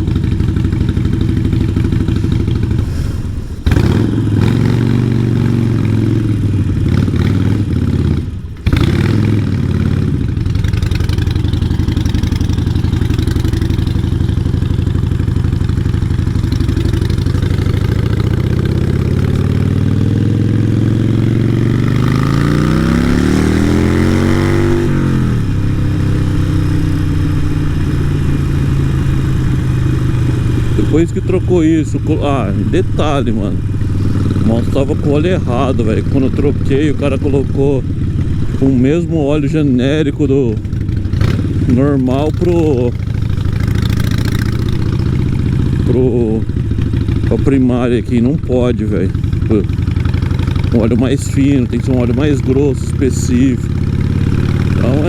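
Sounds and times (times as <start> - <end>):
motorcycle engine while riding: 0.0 - 55.0.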